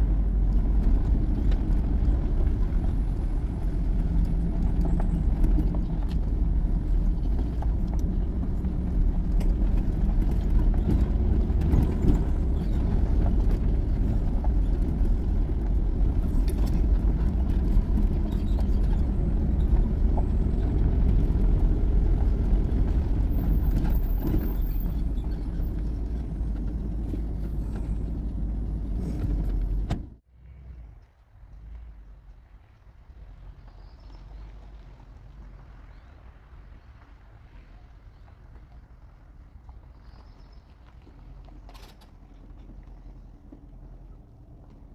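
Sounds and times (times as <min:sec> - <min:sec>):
pickup truck driving rumble: 0:00.0 - 0:44.9.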